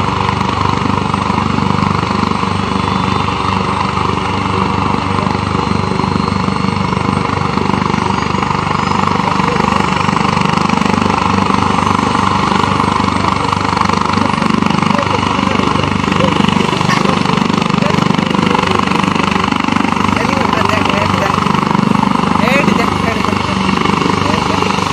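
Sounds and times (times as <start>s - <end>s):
helicopter engine running: 0.0s - 24.9s.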